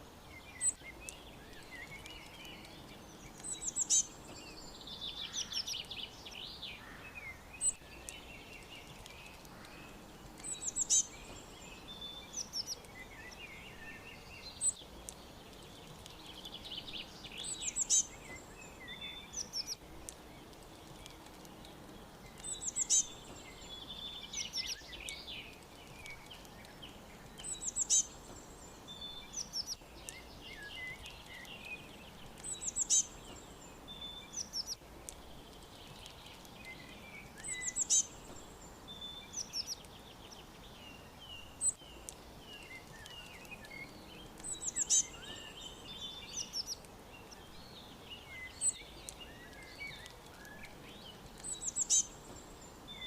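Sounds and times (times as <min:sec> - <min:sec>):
faint background hiss: 0:00.0 - 0:53.0
songbirds chirping and singing: 0:00.0 - 0:53.0.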